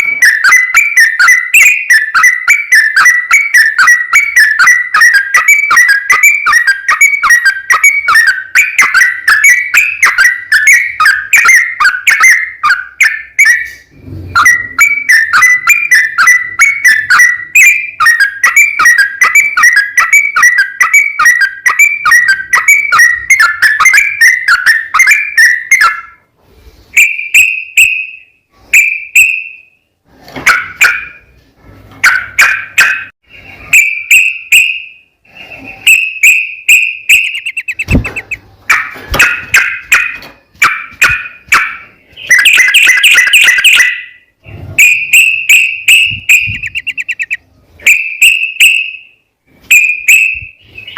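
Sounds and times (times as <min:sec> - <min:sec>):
bulbul chattering song: 0:00.0 - 0:26.2, 0:32.0 - 0:50.9.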